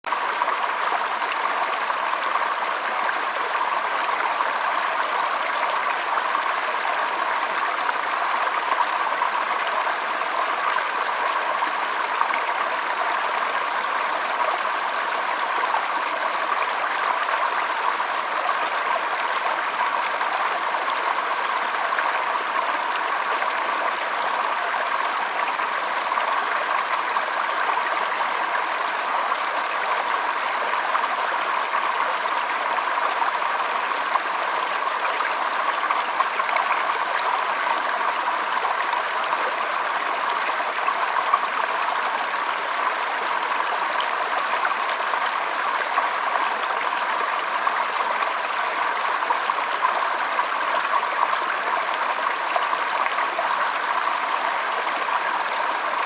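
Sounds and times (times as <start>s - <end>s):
stream flowing over stones: 0.1s - 56.0s.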